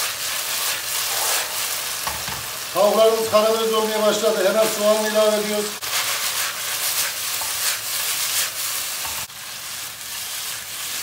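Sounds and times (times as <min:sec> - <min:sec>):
chicken sizzling in frying pan: 0:00.0 - 0:11.0.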